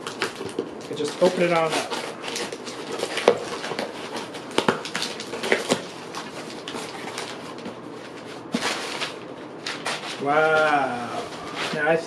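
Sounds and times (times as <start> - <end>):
packing paper rustling: 0.0 - 12.0.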